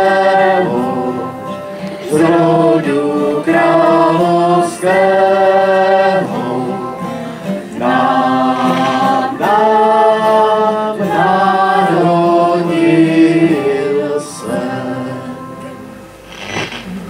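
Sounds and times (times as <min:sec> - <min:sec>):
group singing unaccompanied: 0:00.0 - 0:15.9.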